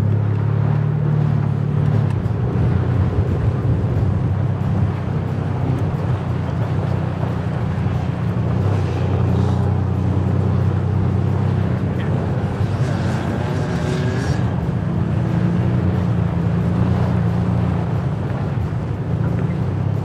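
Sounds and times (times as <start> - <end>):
car engine droning under load: 0.0 - 20.0
tyre and road noise: 0.0 - 20.0.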